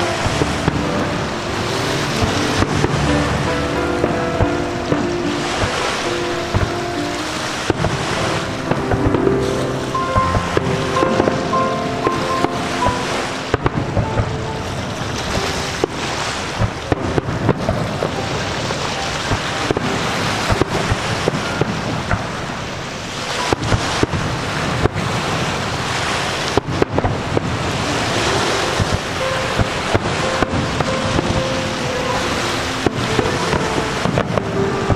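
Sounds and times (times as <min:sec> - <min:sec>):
fireworks bangs: 0:00.0 - 0:34.9
fireworks crackling hiss: 0:00.0 - 0:34.9.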